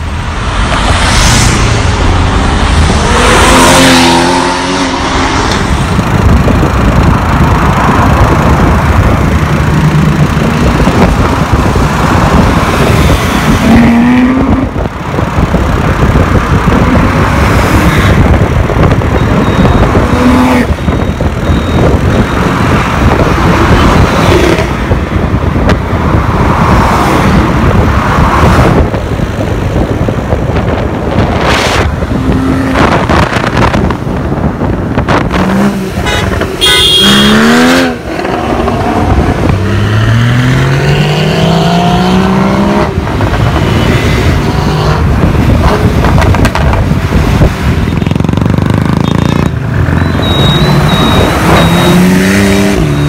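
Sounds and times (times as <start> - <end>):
road and wind noise: 0.0 - 53.0
sports car engines revving: 0.0 - 53.0.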